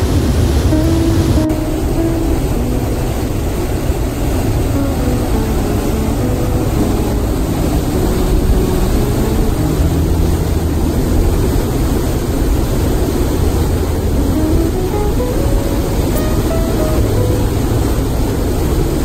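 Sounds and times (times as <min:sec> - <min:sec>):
waterfall and rapids roaring: 0:00.0 - 0:19.0
soft background music: 0:00.4 - 0:12.4, 0:13.2 - 0:19.0.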